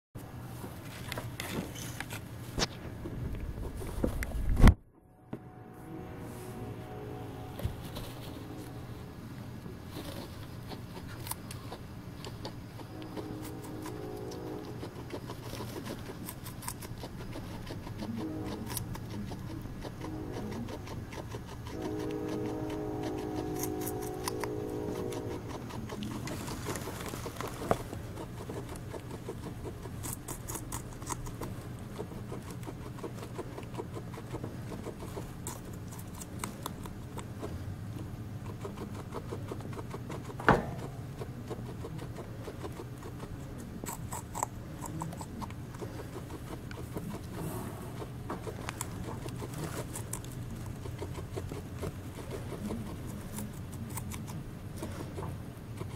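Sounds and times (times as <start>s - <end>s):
guinea pig chewing: 0.8s - 4.7s, 7.6s - 55.9s.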